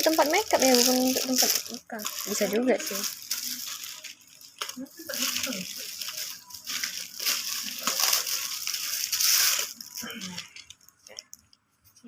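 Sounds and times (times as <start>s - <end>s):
packaging crinkling and rustling: 0.0s - 11.6s.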